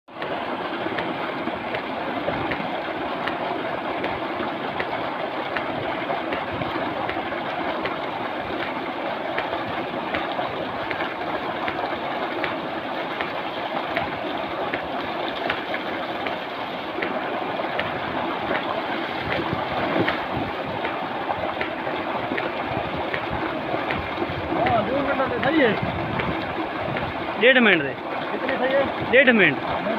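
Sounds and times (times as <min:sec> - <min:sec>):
water pouring into a tank: 0:00.1 - 0:29.9
water splashing: 0:00.1 - 0:29.9.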